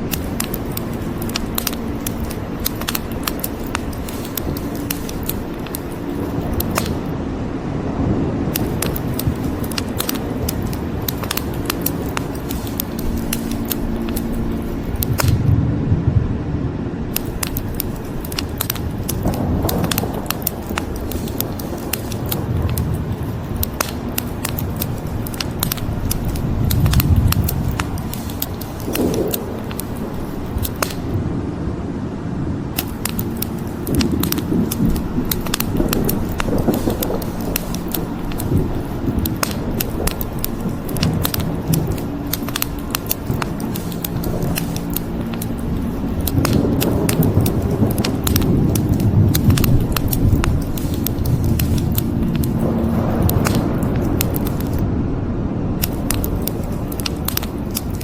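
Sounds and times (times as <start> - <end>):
wood fire crackling: 0.0 - 15.6, 17.0 - 54.8, 55.6 - 58.0
rain hissing: 0.0 - 16.1, 16.9 - 54.9, 55.7 - 58.0
thunder rumbling: 0.0 - 58.0.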